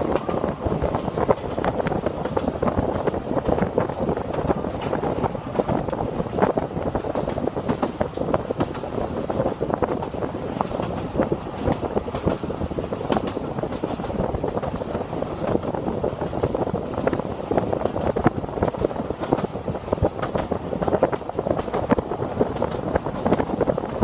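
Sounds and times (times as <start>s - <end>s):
railway carriage rumbling on track: 0.0s - 24.0s.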